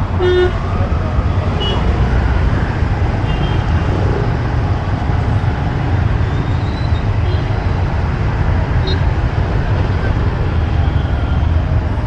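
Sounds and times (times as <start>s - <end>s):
road noise: 0.0s - 12.0s
surrounding traffic: 0.0s - 12.0s.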